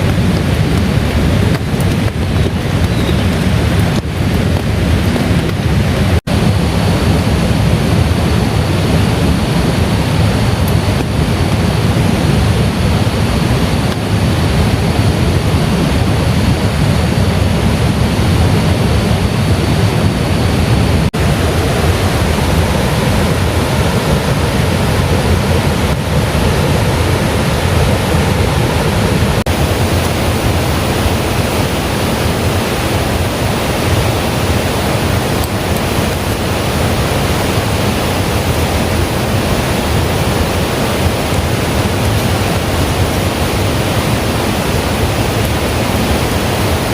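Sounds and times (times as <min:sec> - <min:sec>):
falling water rushing: 0:00.0 - 0:46.9.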